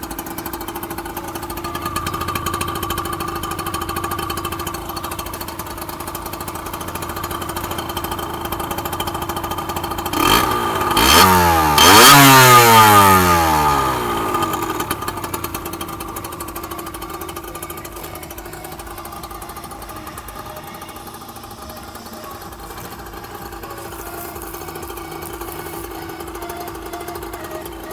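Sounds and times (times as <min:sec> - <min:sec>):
two-stroke engine idling: 0:00.0 - 0:27.9.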